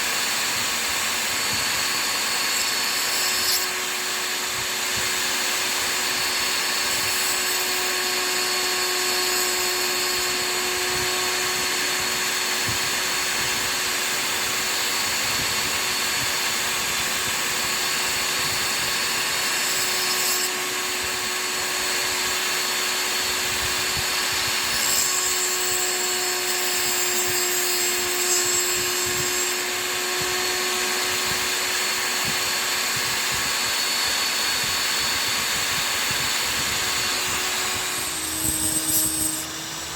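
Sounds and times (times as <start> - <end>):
chisel grinding on sharpener: 0.0 - 39.9.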